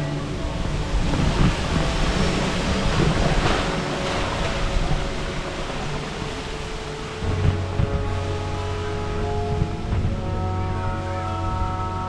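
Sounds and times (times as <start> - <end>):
background music: 0.0 - 12.0
steady rushing noise: 0.0 - 12.0.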